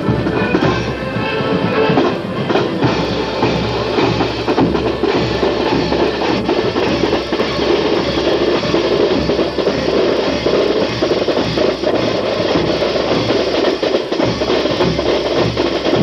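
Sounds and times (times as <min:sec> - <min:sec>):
bass and snare drums beating: 0:00.0 - 0:16.0
marching flute band: 0:00.0 - 0:16.0.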